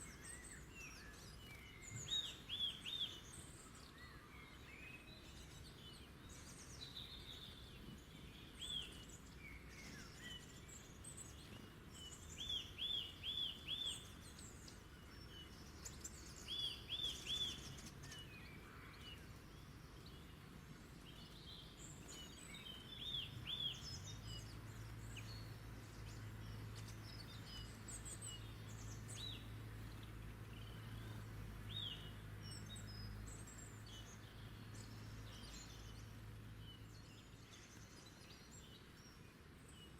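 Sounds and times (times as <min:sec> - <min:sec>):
faint outdoor background noise: 0:00.0 - 0:39.9
songbirds singing: 0:00.0 - 0:39.9.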